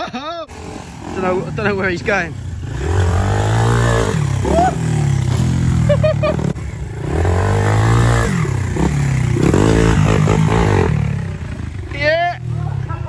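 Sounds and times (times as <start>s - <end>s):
dirt bike engine revving: 0.1s - 13.0s.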